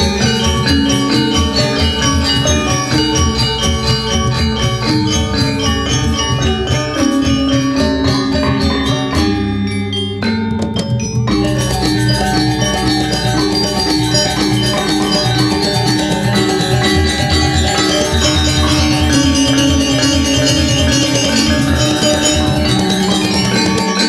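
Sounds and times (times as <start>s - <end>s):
drum: 0.0s - 24.0s
gamelan ensemble playing: 0.0s - 24.0s.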